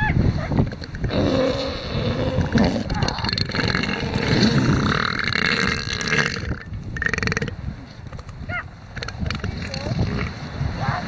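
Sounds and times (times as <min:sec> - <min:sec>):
elephant seal calling: 0:00.0 - 0:11.0.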